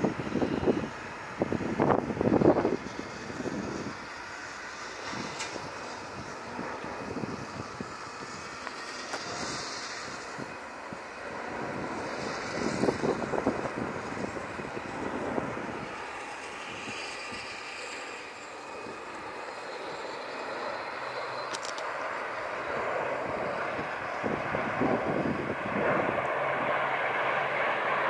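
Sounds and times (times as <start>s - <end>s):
jet airliner rumble: 0.0s - 28.0s.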